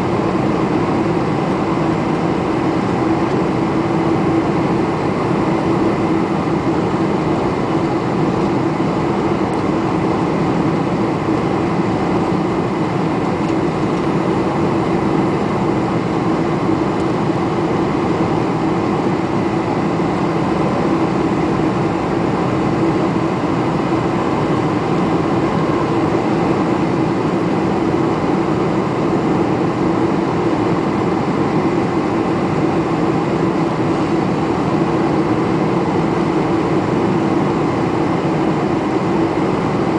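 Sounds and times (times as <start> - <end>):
airplane cabin engine rush: 0.0 - 39.9
constant low hum: 0.0 - 39.9.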